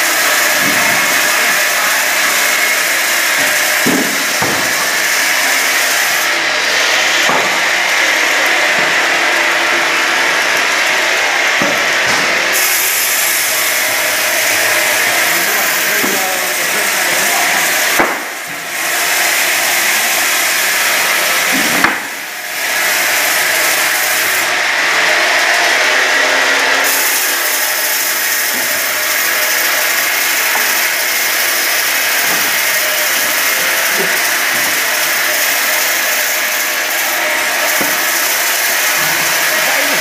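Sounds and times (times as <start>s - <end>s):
rip saw whining: 0.0s - 40.0s.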